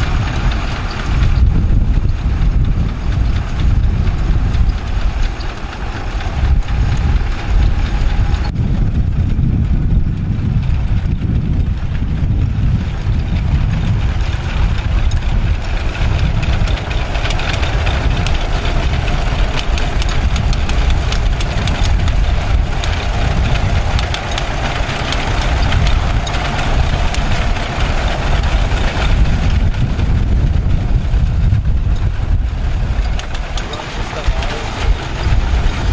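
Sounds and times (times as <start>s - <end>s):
binder mechanism rattling and clicking: 0.0s - 35.9s
tractor engine running: 0.0s - 35.9s.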